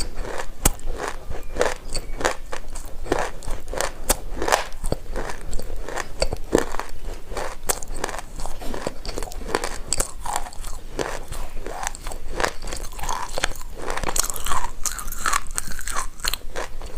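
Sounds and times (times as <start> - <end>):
clay crunching while chewed: 0.0 - 16.9.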